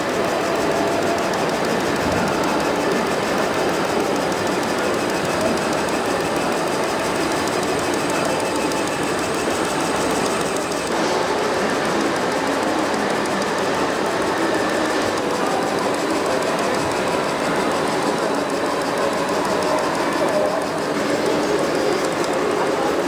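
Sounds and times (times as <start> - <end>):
rotating sweeper brush whirring: 0.0 - 23.0.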